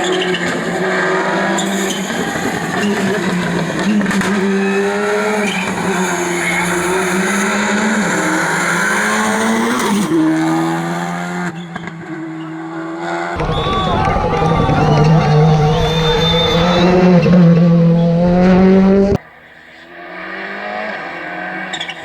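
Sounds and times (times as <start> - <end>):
rally car engine shifting gears: 0.0 - 22.0.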